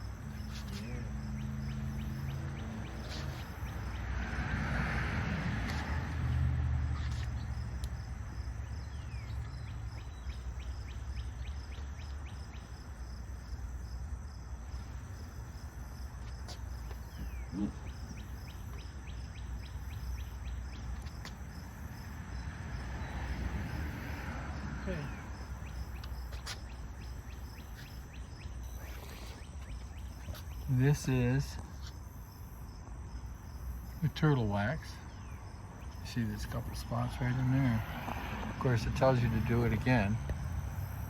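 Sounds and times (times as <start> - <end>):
insects chirping: 0.0 - 41.0.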